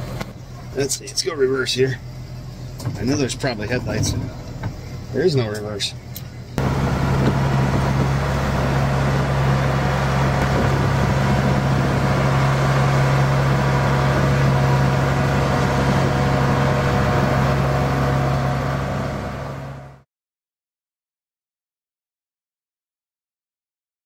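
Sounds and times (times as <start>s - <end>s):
farm machine engine running: 0.0s - 20.0s.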